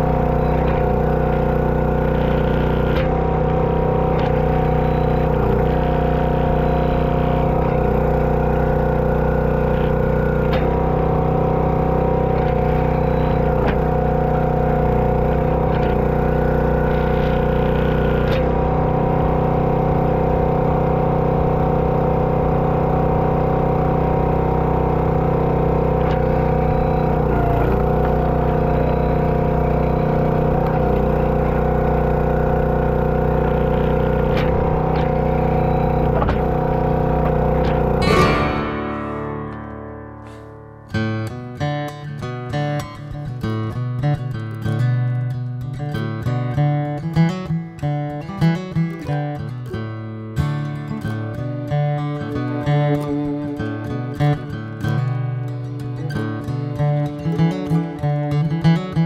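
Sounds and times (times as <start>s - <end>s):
log splitter engine running: 0.0s - 59.0s.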